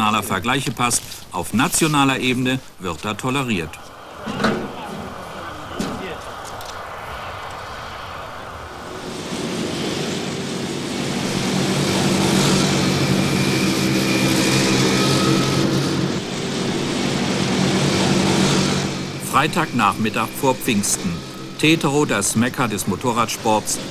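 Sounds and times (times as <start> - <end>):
motorcycle engines droning: 3.1 - 23.9.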